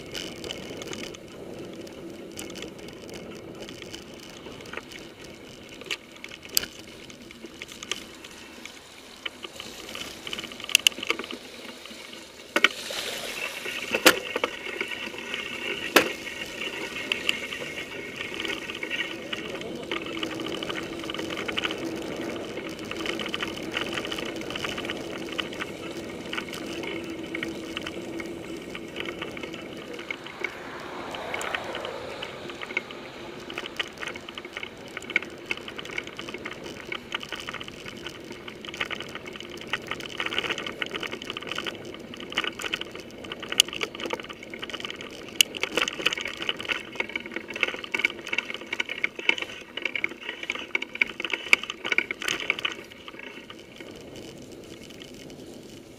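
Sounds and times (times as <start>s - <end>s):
bike rattling clicks and knocks: 0.0s - 55.9s
tyre and wind noise: 0.0s - 55.9s.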